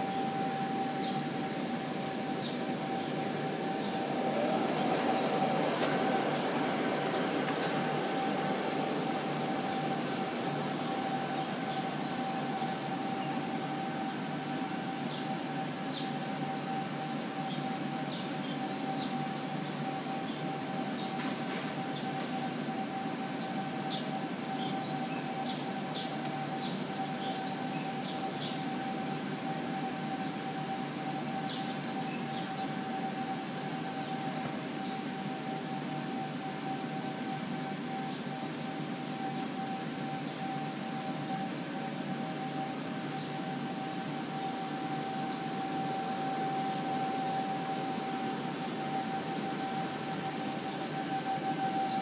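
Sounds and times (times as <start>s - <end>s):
electric air blower whining: 0.0s - 52.0s.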